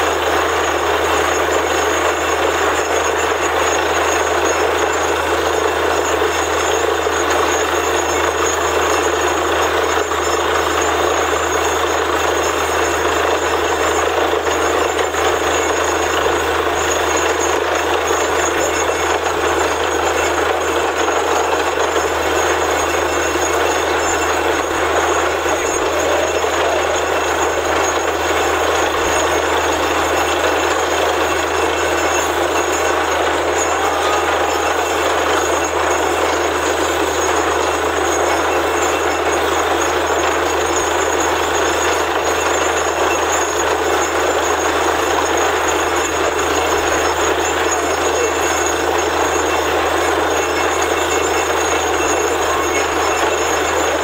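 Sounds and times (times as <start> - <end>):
drilling rig running: 0.0 - 54.0.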